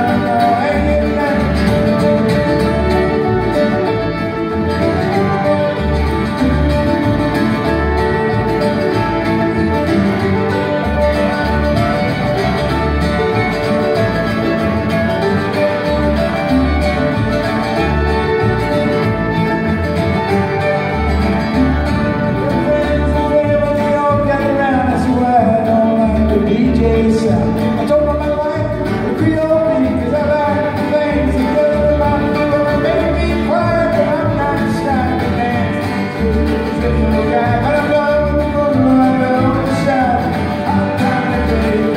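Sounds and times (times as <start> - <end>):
acoustic guitar: 0.0 - 41.9
fiddle: 0.0 - 41.9
mandolin: 0.0 - 41.9
plucked upright bass: 0.0 - 41.9.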